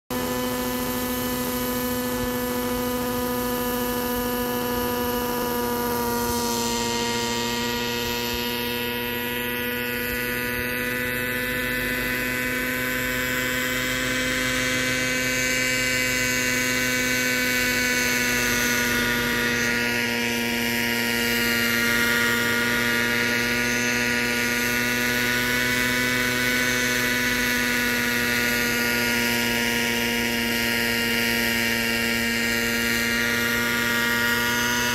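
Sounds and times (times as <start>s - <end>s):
model helicopter engine: 0.1s - 34.9s
rotor whirring: 0.1s - 34.9s.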